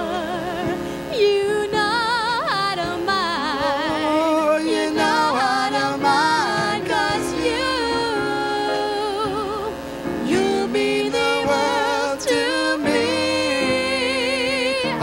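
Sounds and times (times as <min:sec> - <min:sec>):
man and woman singing duet: 0:00.0 - 0:15.0.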